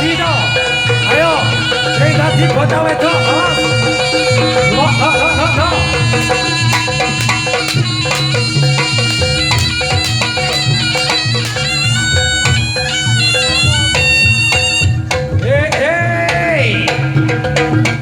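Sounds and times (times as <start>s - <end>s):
drum beat: 0.0s - 18.0s
reedy shawm melody: 0.0s - 18.0s
sharp percussion strikes: 0.0s - 18.0s.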